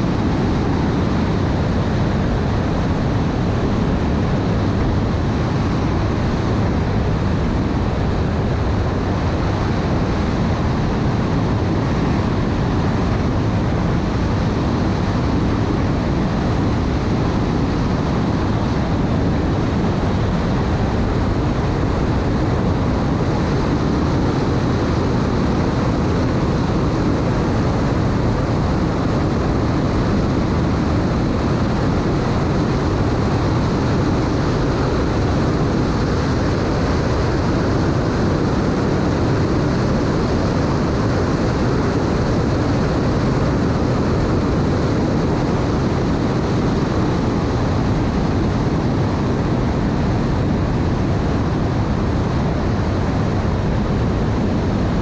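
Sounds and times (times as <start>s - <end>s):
deep boat engine drone: 0.0s - 55.0s
rush of wind and water: 0.0s - 55.0s.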